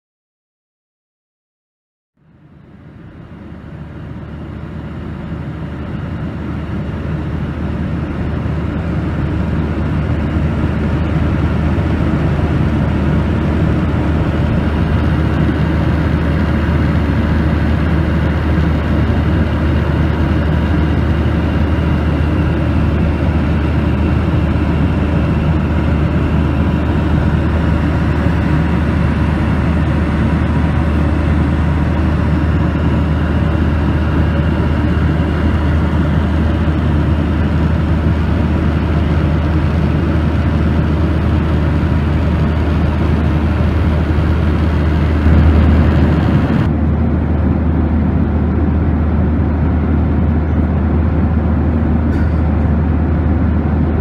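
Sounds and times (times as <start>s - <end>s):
jet engine and airflow roar: 2.2s - 54.0s
low drone: 2.2s - 54.0s.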